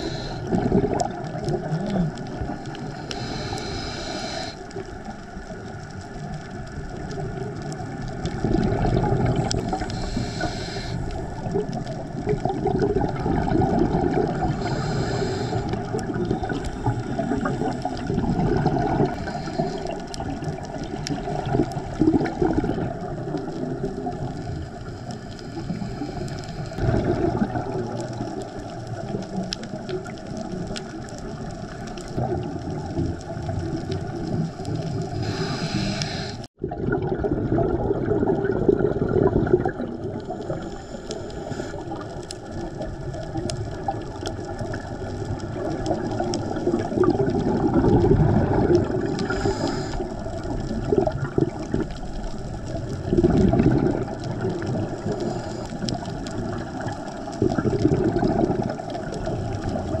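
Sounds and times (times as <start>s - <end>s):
underwater regulator bubbles gurgling: 0.0s - 60.0s.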